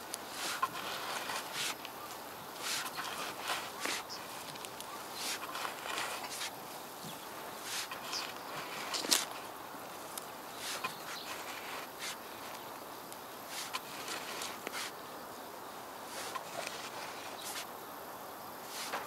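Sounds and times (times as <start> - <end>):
hoe scraping through soil: 0.0 - 12.8, 13.4 - 15.0, 16.0 - 17.7, 18.6 - 19.0.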